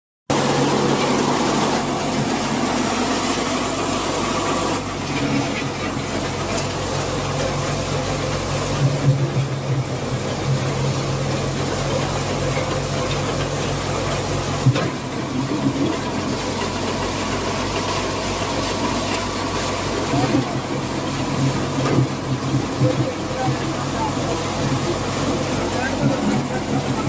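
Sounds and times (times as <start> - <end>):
tractor diesel engine under load: 0.3 - 27.0.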